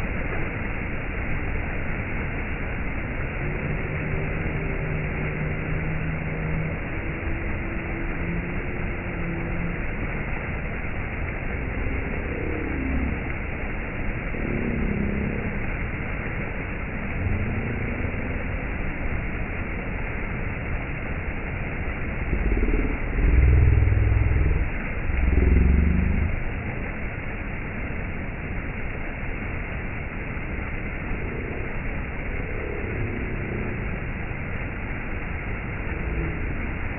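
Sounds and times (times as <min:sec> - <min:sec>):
low wavering rumble: 0:02.3 - 0:36.9.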